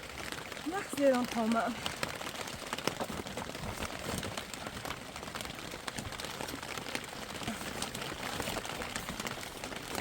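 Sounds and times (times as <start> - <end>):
raindrops ticking on a surface: 0.0 - 10.0
steady rain falling: 0.0 - 10.0.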